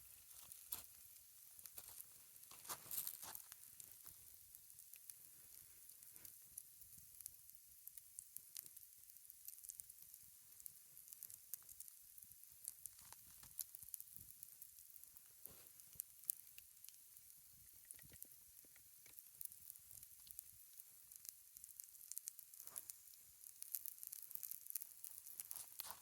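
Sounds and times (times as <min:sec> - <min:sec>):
campfire cooking sizzling and popping: 0:00.0 - 0:26.0.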